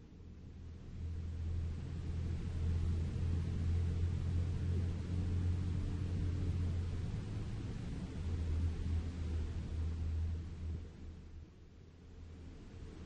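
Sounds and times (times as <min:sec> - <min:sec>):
engine and road rumble: 0:00.4 - 0:13.0.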